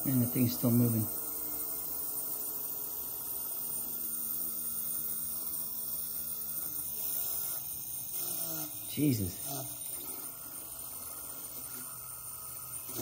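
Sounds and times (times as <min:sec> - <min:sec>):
fidget spinner bearing hum: 0:00.0 - 0:13.0.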